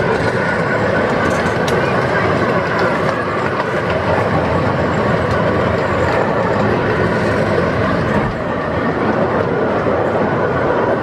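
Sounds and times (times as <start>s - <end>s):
train wheels running on rails: 0.0s - 11.0s.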